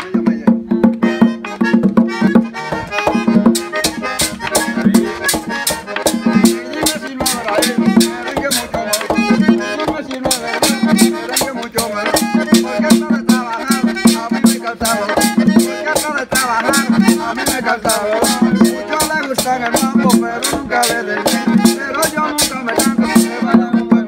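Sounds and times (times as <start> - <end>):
accordion melody: 0.0 - 24.0
drum beats: 0.0 - 24.0
metal scraper rhythm: 1.1 - 24.0.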